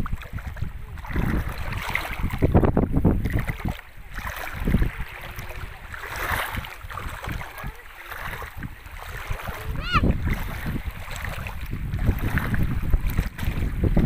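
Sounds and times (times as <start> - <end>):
small sea waves on shore: 0.0 - 14.0
wind gusting across microphone: 0.0 - 14.0.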